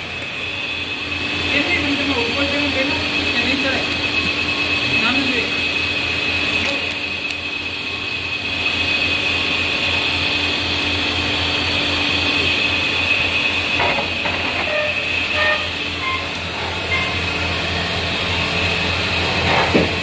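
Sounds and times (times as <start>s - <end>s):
machine motor humming and whining: 0.0s - 20.0s.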